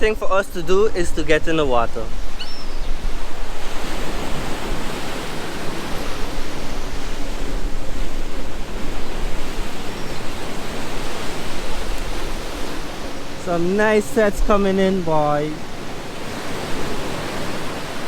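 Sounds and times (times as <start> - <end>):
storm surf breaking ashore: 0.0 - 18.0.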